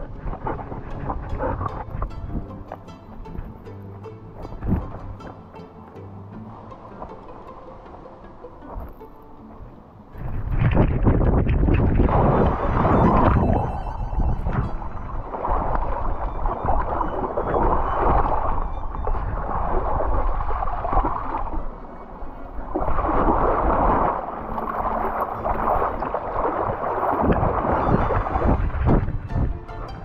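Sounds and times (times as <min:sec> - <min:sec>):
creek water sloshing and gurgling: 0:00.0 - 0:30.0.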